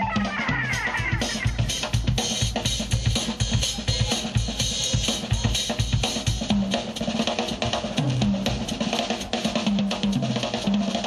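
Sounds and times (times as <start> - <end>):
fast drum kit solo: 0.0 - 11.0
cymbals washing: 0.7 - 11.0.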